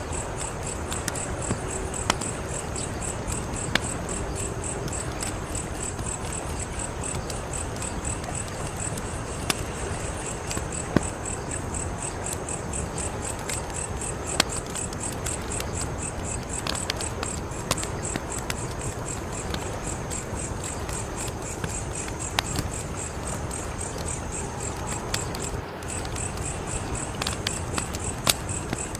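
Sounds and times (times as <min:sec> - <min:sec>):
crickets chirping: 0:00.0 - 0:28.9
wood fire crackling: 0:00.0 - 0:28.9.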